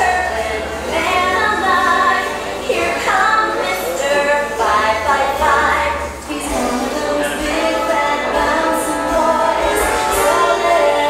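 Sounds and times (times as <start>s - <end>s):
dance music with singing: 0.0s - 11.0s.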